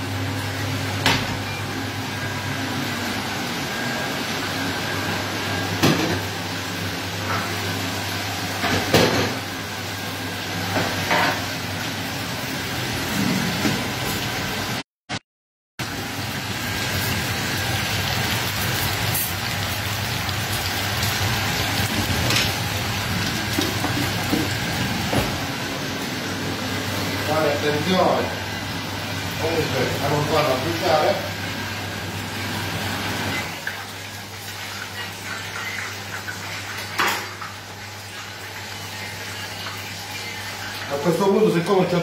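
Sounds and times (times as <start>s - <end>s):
chicken deep-frying in oil: 0.0s - 14.8s, 15.8s - 42.0s.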